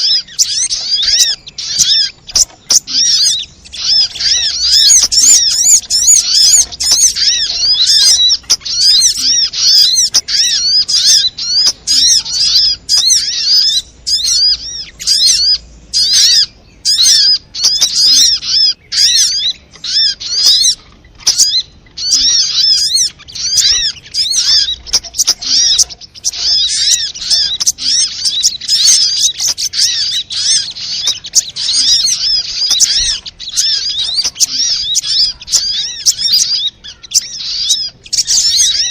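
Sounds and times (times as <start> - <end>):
songbird twittering chirps: 0.0 - 38.9.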